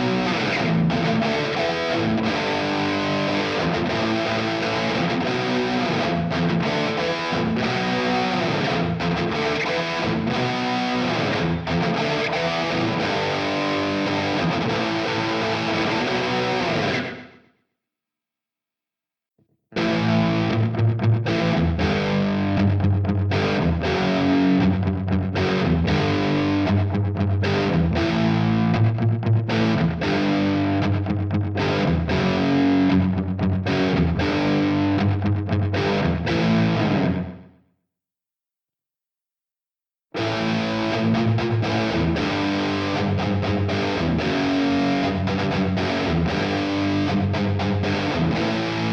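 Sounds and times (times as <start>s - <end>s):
distorted electric guitar: 0.0s - 17.4s, 19.7s - 37.6s, 40.2s - 48.9s.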